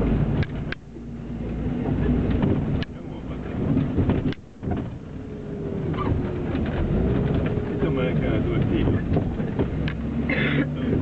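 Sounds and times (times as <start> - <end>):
bus engine and road rumble: 0.0 - 11.0
knocks and rattles: 1.8 - 11.0.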